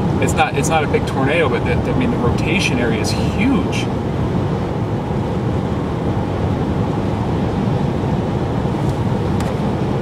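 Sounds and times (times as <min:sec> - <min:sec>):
road and engine noise inside vehicle: 0:00.0 - 0:10.0.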